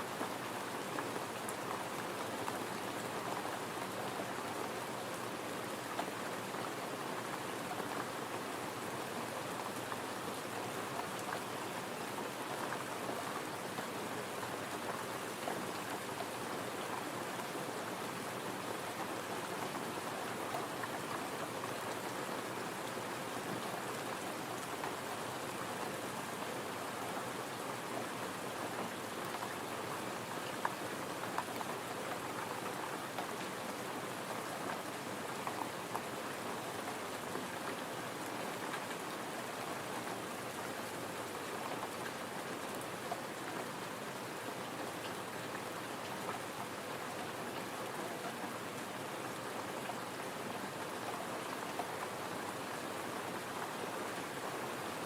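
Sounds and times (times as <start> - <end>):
gentle rain pattering: 0.0 - 55.0.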